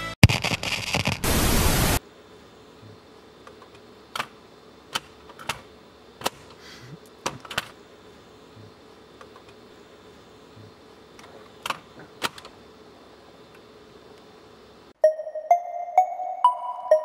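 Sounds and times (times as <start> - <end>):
static hiss: 0.2 - 15.0.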